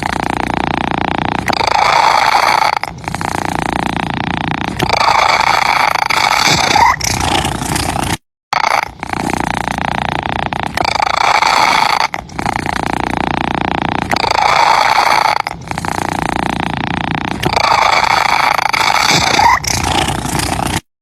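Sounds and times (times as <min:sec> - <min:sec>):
cat purring loudly: 0:00.0 - 0:20.9.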